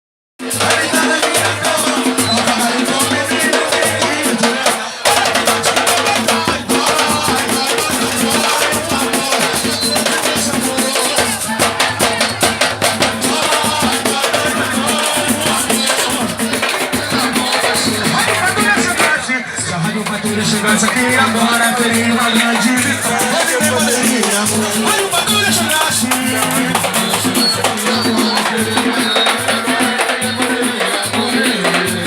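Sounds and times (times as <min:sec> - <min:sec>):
percussion group drumming: 0:00.4 - 0:32.0.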